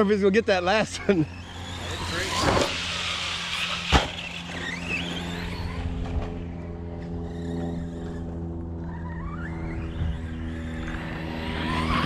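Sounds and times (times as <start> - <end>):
electric motor whining: 0.0 - 12.0
steady low hum: 0.0 - 12.0.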